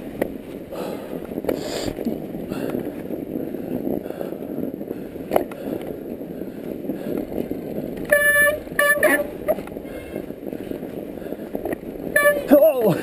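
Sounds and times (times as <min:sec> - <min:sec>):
bike tyres crunching through snow: 0:00.0 - 0:13.0.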